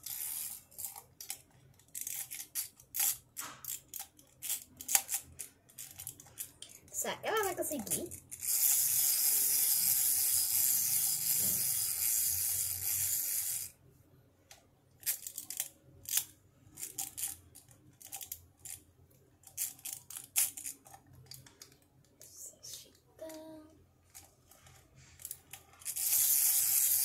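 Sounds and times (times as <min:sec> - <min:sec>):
plastic toys clicking on tile: 0:00.0 - 0:13.7, 0:15.0 - 0:18.8, 0:19.4 - 0:22.3, 0:24.1 - 0:27.0
toy mechanism whirring: 0:00.0 - 0:13.8, 0:14.9 - 0:27.0.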